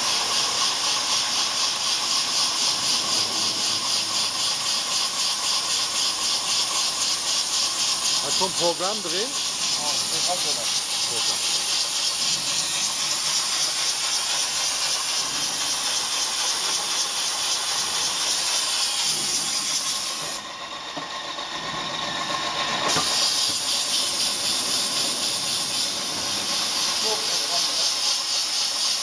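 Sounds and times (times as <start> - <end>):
drilling machine hissing: 0.0 - 29.0.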